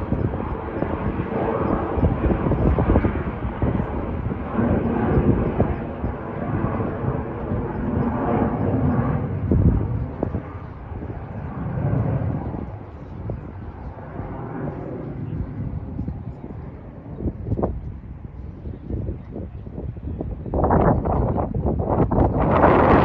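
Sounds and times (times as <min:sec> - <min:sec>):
jet airliner distant rumble: 0:00.0 - 0:23.0.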